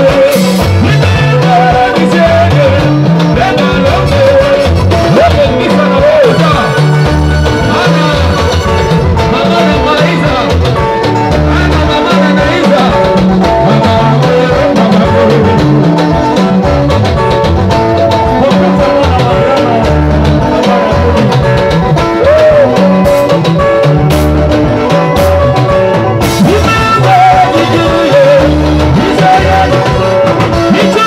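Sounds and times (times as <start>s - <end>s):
vocals: 0.0s - 17.2s, 17.8s - 23.8s, 26.2s - 31.0s
live band playing dance music: 0.0s - 31.0s.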